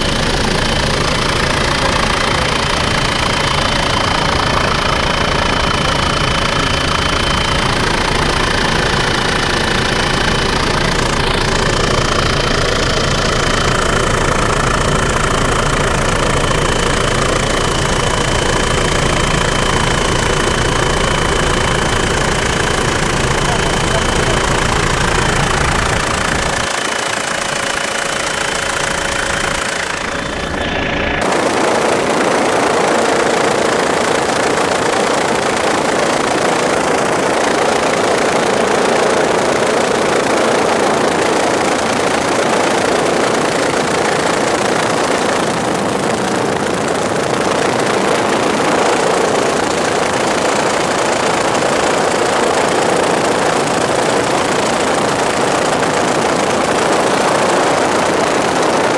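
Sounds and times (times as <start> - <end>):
helicopter cabin rotor noise: 0.0 - 58.9.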